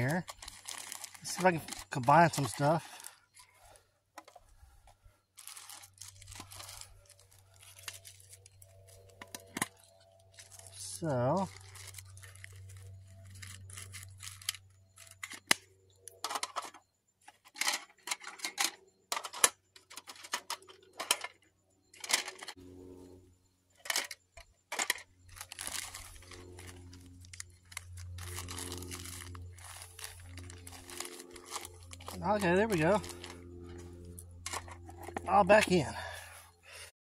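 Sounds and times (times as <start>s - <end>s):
low steady hum: 0.0s - 36.9s
rustling and scraping of gear: 0.0s - 36.9s.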